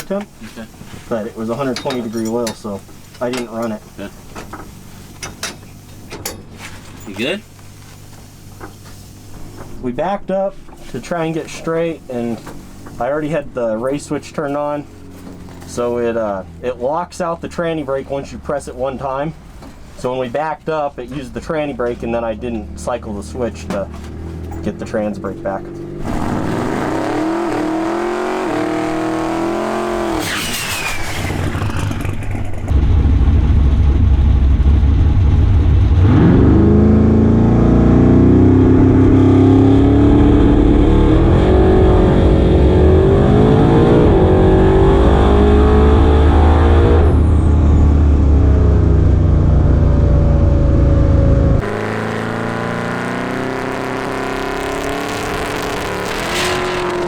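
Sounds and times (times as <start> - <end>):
drag car engine revving: 0.0 - 57.0.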